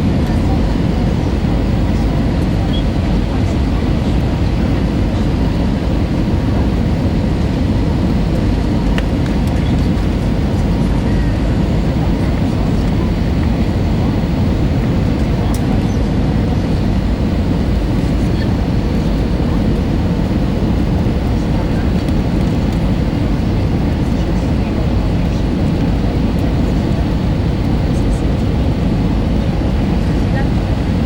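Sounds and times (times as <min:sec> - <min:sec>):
faint steady whine: 0:00.0 - 0:31.0
jet engine rumble and airflow: 0:00.0 - 0:31.0.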